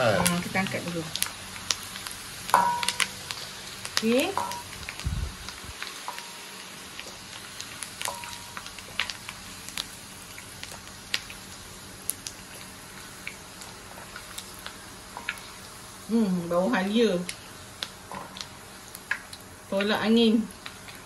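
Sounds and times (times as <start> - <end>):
ginger sizzling in hot oil: 0.0 - 21.0.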